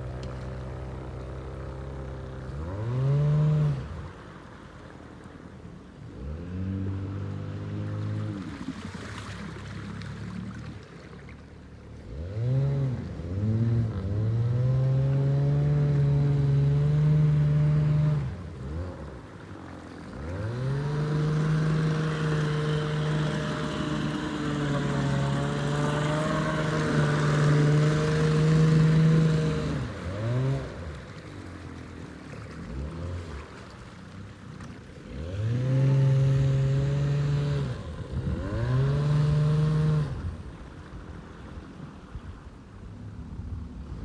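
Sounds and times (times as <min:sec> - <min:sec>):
outboard motor revving: 0:00.0 - 0:44.0.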